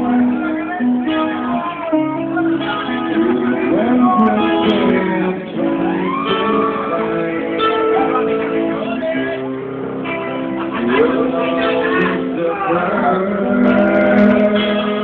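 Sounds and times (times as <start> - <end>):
electric guitar strummed and picked: 0.0 - 15.0
live band music: 0.0 - 15.0
person singing: 0.0 - 15.0.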